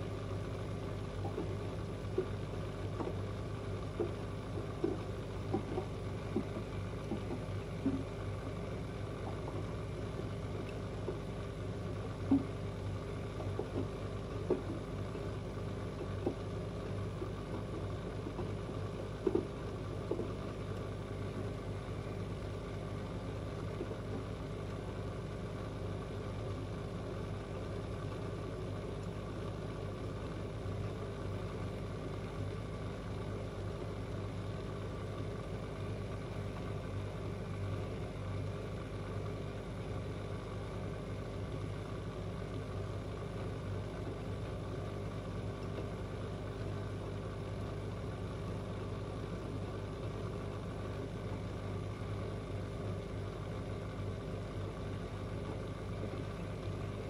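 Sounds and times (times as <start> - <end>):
washing machines humming: 0.0 - 57.0.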